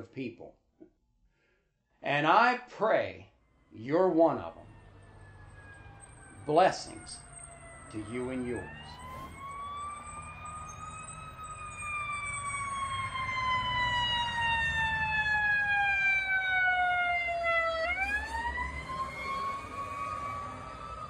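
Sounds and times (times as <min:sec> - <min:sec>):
fire truck siren wailing: 0:03.4 - 0:21.0
truck engine rumbling: 0:03.7 - 0:21.0.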